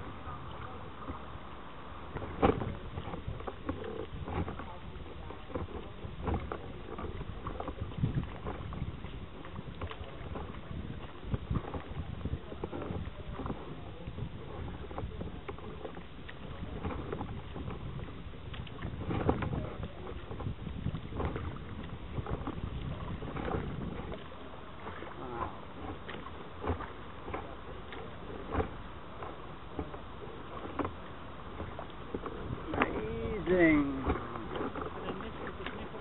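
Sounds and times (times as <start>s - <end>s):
paddle splashing water: 0.0s - 36.0s.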